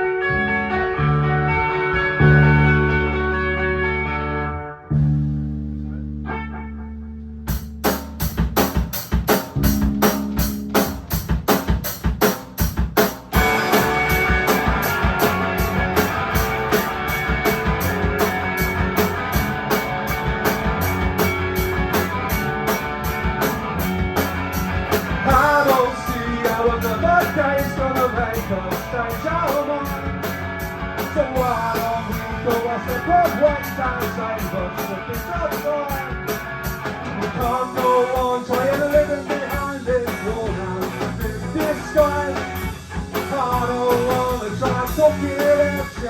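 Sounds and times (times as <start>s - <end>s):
rock band with electric guitars: 0.0s - 46.0s
drums steady beat: 7.5s - 46.0s.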